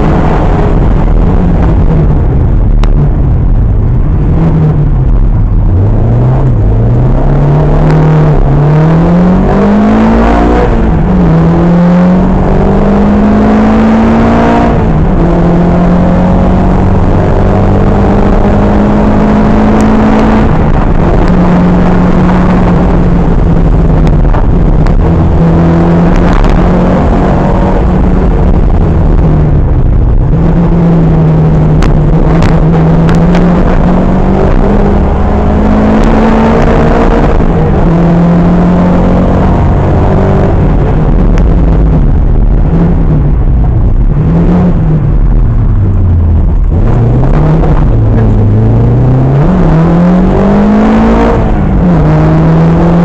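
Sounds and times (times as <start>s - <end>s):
rally car engine revving: 0.0s - 53.0s
road noise: 0.0s - 53.0s.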